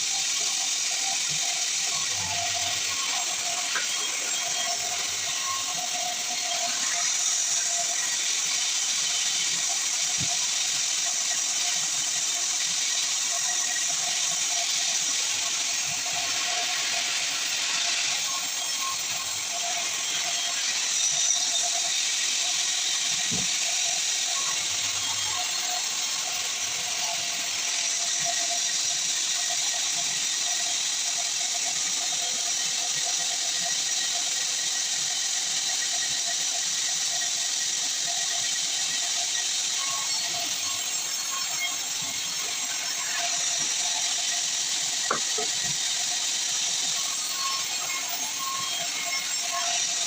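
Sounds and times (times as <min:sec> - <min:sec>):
saw cutting through log: 0:00.0 - 0:50.0.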